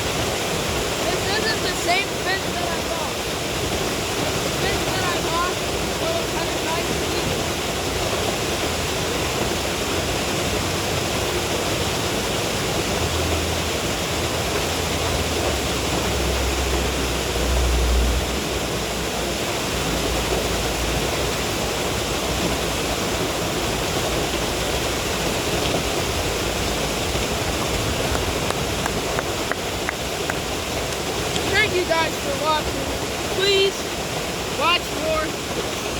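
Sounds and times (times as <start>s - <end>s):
water pouring over a spillway: 0.0s - 35.9s.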